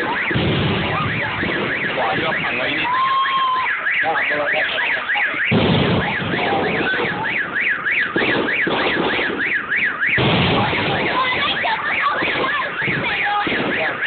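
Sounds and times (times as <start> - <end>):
electronic siren warbling: 0.0 - 13.0
fireworks bursting and crackling: 0.0 - 14.0.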